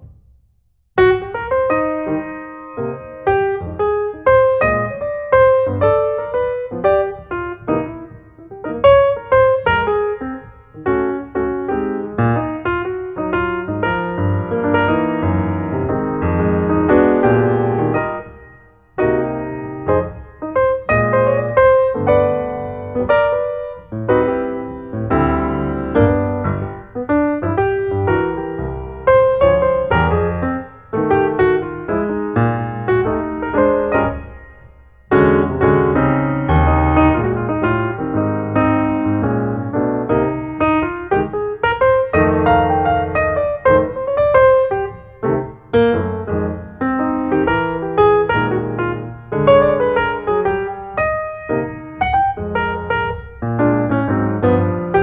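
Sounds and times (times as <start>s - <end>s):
piano music: 1.0s - 55.0s.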